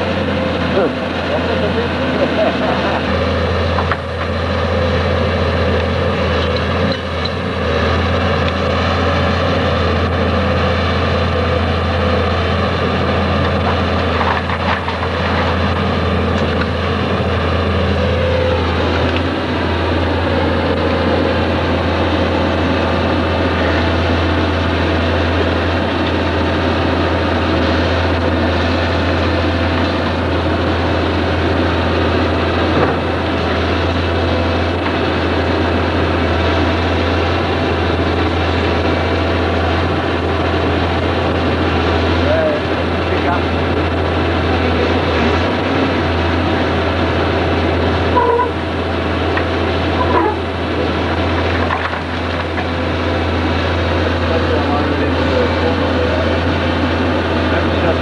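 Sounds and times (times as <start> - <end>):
excavator diesel engine drone: 0.0 - 58.0.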